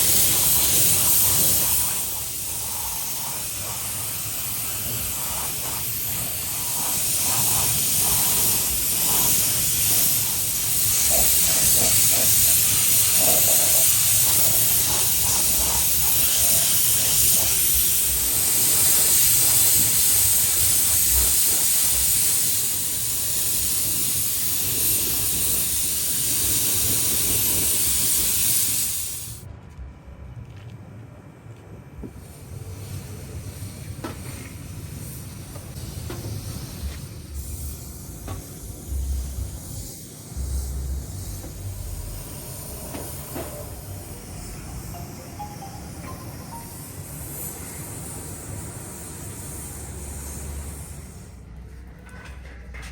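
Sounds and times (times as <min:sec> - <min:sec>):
pressurized spray hissing: 0:00.0 - 0:29.5, 0:32.2 - 0:51.4.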